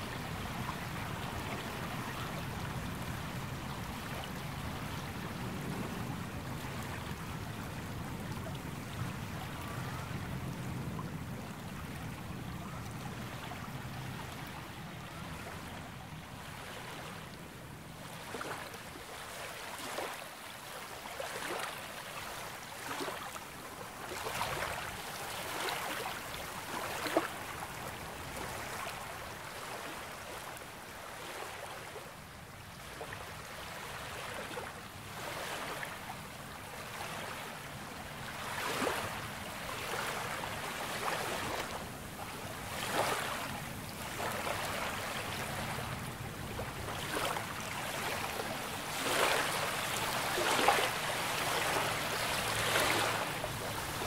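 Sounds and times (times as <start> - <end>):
small waves washing up shore: 0.0 - 54.0.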